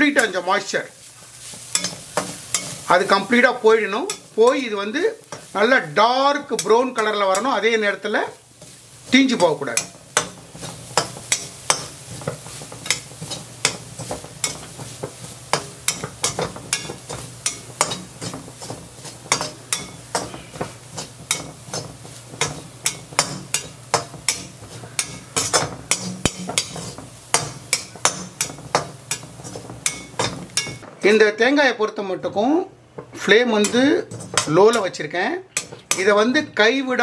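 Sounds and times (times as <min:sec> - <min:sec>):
spatula scraping a pan: 0:00.0 - 0:31.1, 0:33.0 - 0:36.2.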